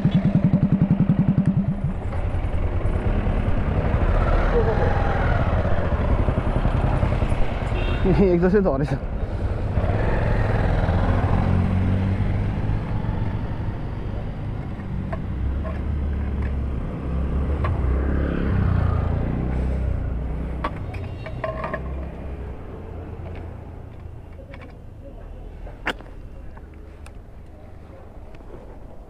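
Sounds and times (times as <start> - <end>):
engine rumble: 0.0 - 29.0.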